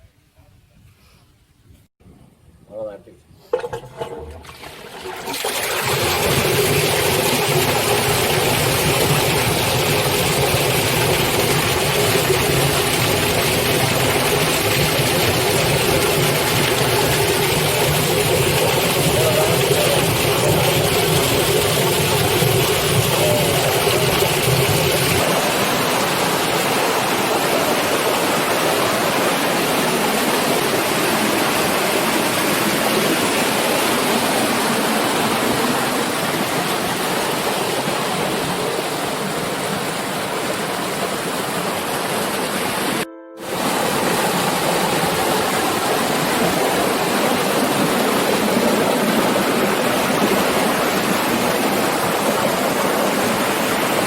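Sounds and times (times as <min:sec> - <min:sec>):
water rushing and splashing: 0:03.6 - 0:54.0.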